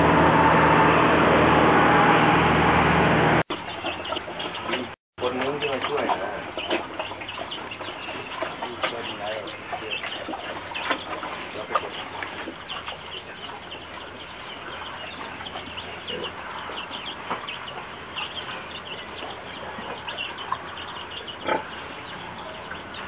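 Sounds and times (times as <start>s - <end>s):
poultry clucking and chirping: 3.4s - 23.0s.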